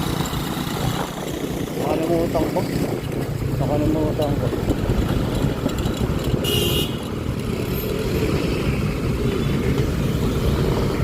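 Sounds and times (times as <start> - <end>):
scooter engine rumble: 0.0 - 11.0
wind noise: 0.0 - 11.0.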